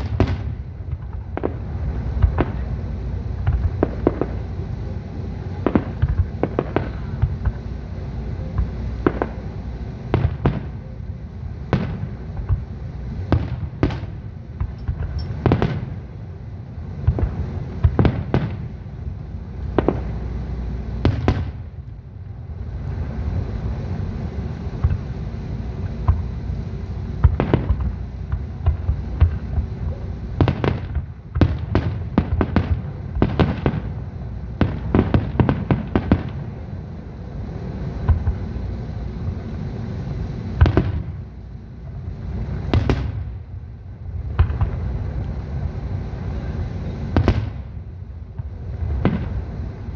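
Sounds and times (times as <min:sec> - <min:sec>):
firework shells bursting: 0:00.0 - 0:22.1, 0:22.7 - 0:36.8, 0:37.6 - 0:49.9
low rumble: 0:00.0 - 0:49.9.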